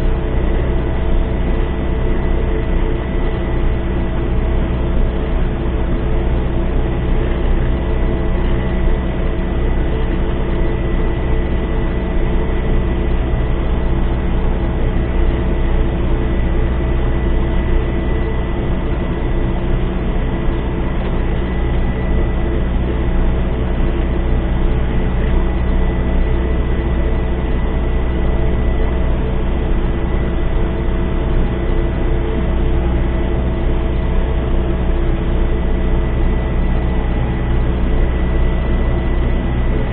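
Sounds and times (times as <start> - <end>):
thin steady whine: 0.0 - 39.9
tractor diesel engine droning: 0.0 - 39.9.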